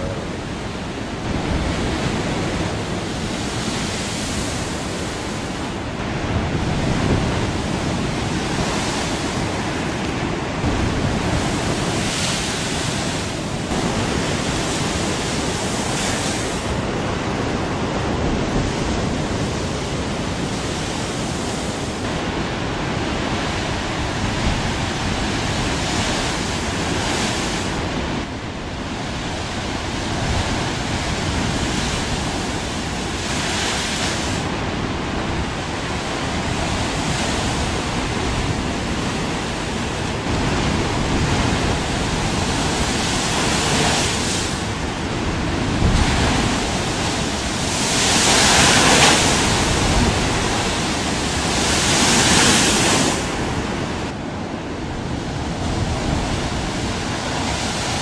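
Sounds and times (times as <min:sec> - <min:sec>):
ocean waves breaking on rocks: 0:00.0 - 0:58.0.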